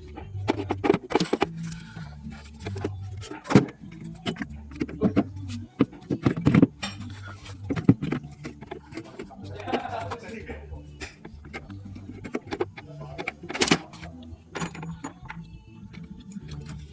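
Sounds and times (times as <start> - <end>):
metal tools clicking and clanking: 0.1 - 16.9.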